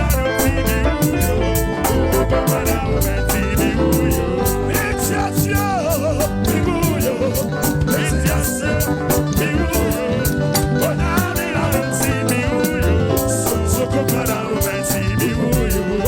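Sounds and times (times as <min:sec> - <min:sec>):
heavy bass line: 0:00.0 - 0:16.0
percussive beat: 0:00.0 - 0:16.0
wavering melodic lead: 0:00.0 - 0:16.0.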